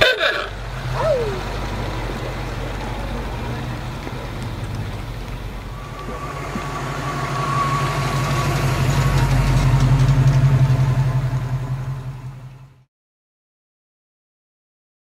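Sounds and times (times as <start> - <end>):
car driving past: 0.0 - 12.9
car engine pulling away: 0.0 - 12.9.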